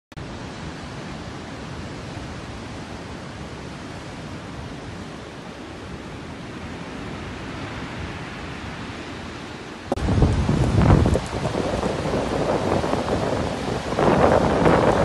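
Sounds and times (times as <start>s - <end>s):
surf breaking on rocky shore: 0.2s - 15.0s.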